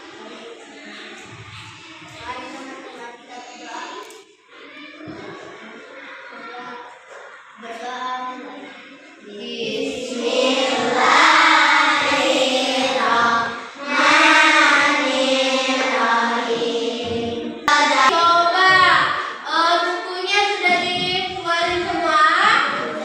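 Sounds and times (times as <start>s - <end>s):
children singing together: 3.3s - 23.0s.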